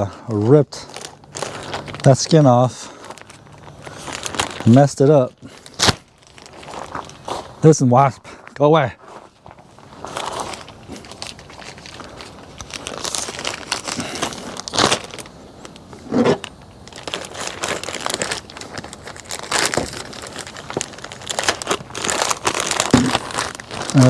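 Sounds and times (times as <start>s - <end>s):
plastic bag crinkling: 0.3s - 7.7s, 9.1s - 24.0s.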